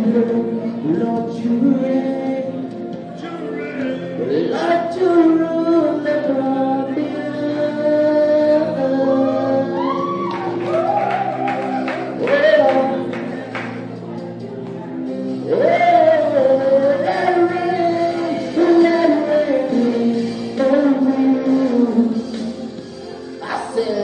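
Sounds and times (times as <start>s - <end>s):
person singing gospel: 0.0s - 14.1s, 15.0s - 24.0s
sustained backing chords: 0.0s - 24.0s.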